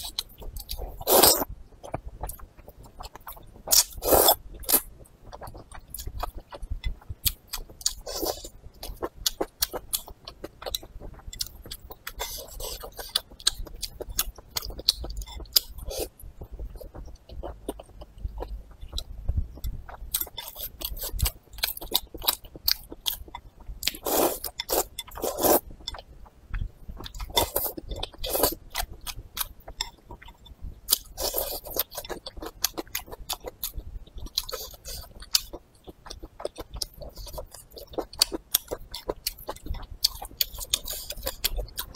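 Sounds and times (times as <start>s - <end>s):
chewing noodles: 0.0s - 41.9s.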